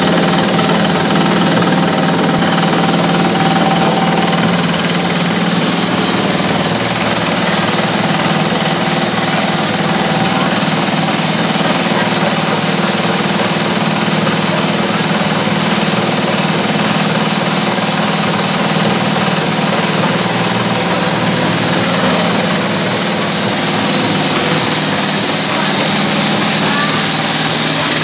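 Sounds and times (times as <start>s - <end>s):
feed mix pouring: 0.0s - 28.0s
machine mechanical drone: 0.0s - 28.0s.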